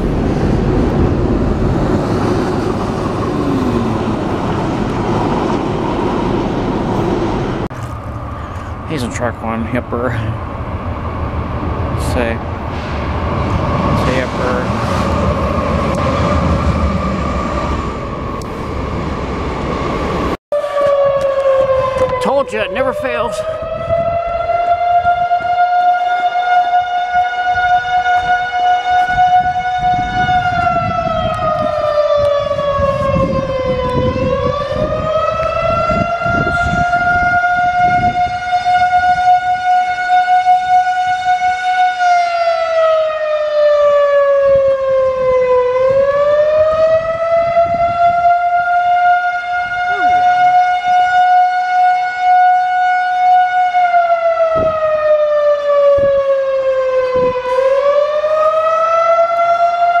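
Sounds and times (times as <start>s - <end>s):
siren wailing: 0.0s - 8.4s, 10.4s - 60.0s.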